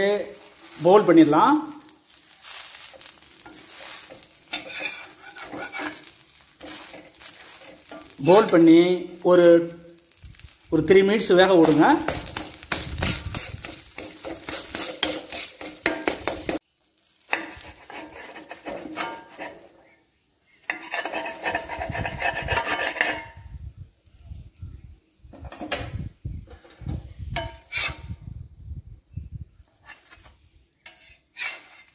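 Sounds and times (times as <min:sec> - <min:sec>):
spatula scraping on a griddle: 0:00.0 - 0:23.6, 0:25.3 - 0:28.4, 0:29.6 - 0:31.9.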